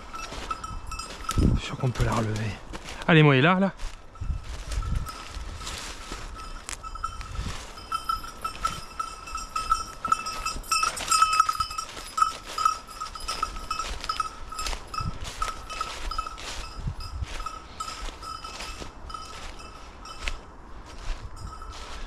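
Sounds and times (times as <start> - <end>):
dog bell jingling: 0.0 - 1.7, 4.2 - 20.4, 21.0 - 22.0
brush rustling and crackling: 3.8 - 22.0.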